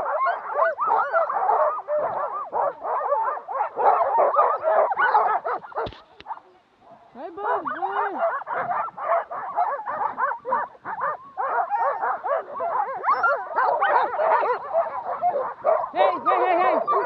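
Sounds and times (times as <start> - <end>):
sled dogs barking and yelping: 0.0 - 17.0.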